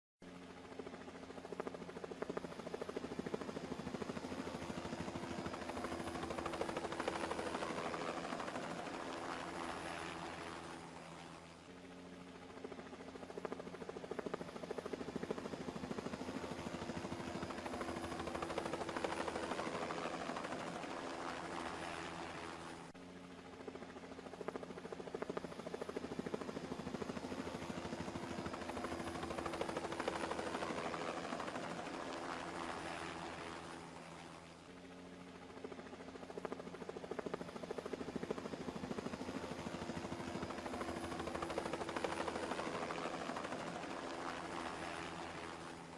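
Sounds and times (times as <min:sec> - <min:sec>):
helicopter engine and rotor hum: 0:00.2 - 0:45.9.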